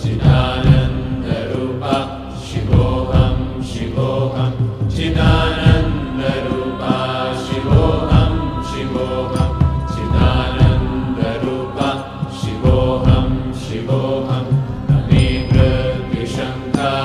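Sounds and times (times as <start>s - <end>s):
accompanying instruments: 0.0s - 17.0s
chanted vocal line: 0.0s - 17.0s
drum strikes: 0.0s - 17.0s.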